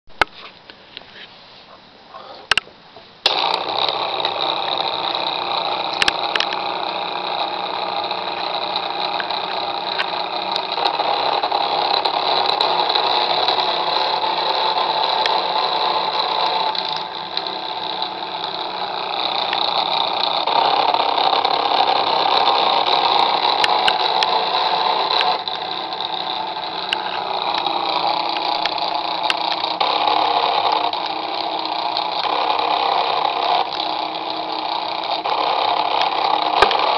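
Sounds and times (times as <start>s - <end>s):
model boat motor running: 3.3s - 36.9s.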